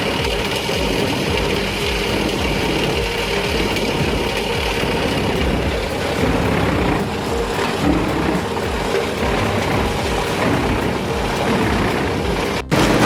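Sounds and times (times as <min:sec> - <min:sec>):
wood-processing machine droning: 0:00.0 - 0:13.0.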